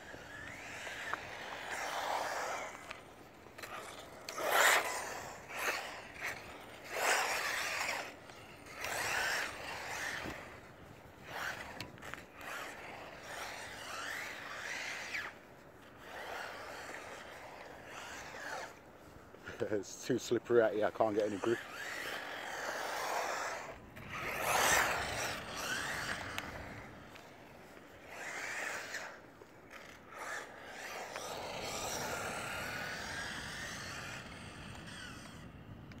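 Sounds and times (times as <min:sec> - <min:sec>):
electric motor whine: 0:00.0 - 0:36.0
tyres scrabbling on tarmac: 0:00.0 - 0:36.0.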